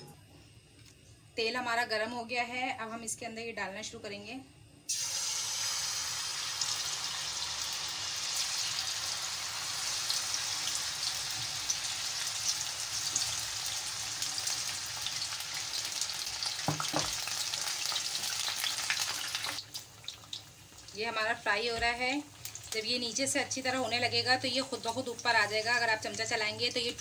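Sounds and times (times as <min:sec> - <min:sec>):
batter sizzling in hot oil: 0:04.9 - 0:27.0.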